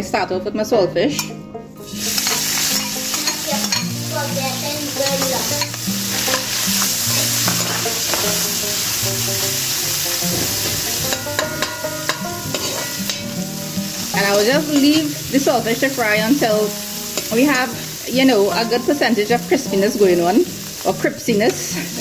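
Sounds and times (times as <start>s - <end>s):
fish sizzling in a pot: 1.8s - 22.0s.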